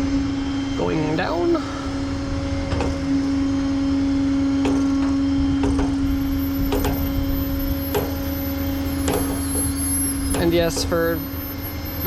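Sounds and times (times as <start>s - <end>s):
hydraulic pump whine: 0.0s - 12.0s
low engine rumble: 0.0s - 12.0s.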